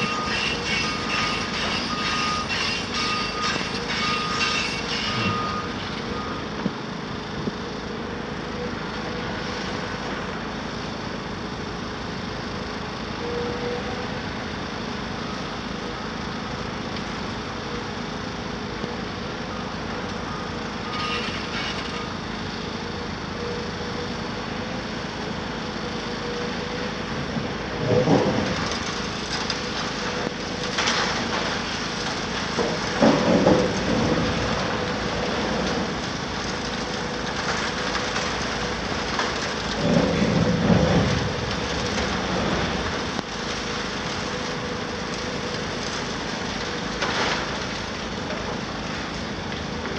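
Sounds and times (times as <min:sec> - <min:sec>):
excavator running: 0:00.0 - 0:49.9.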